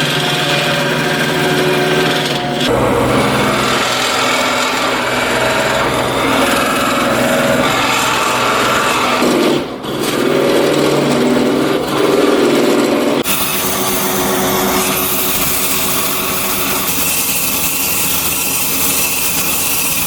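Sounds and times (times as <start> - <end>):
electric power tool running: 0.0 - 20.0.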